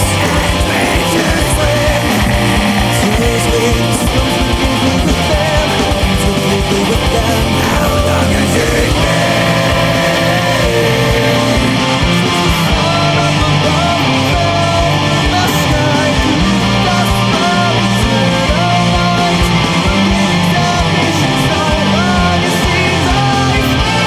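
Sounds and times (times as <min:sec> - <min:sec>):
distorted guitars: 0:00.0 - 0:24.0
rapid drum beat: 0:00.0 - 0:24.0
sliding melodic guitar line: 0:00.0 - 0:24.0.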